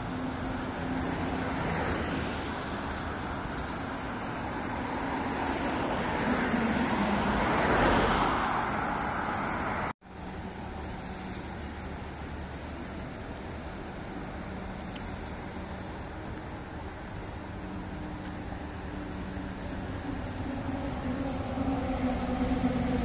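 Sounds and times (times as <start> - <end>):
maglev train passing: 0.0 - 23.0.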